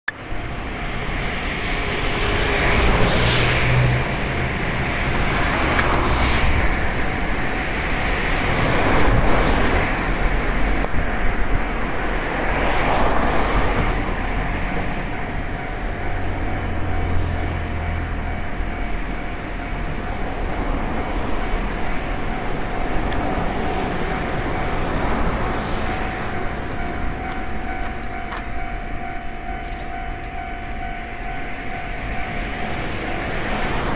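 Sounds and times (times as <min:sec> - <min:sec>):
level crossing alarm ringing: 0:00.1 - 0:33.9
vehicles passing: 0:00.1 - 0:33.9.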